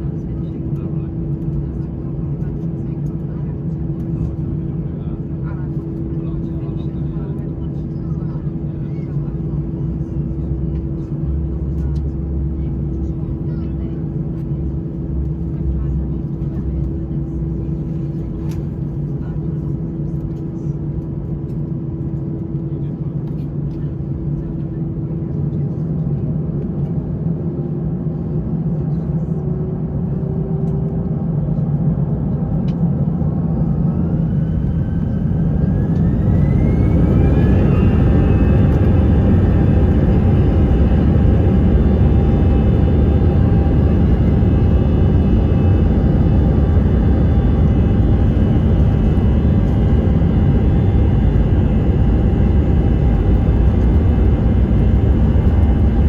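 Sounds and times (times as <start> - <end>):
low rumble of takeoff roll: 0.0 - 56.0.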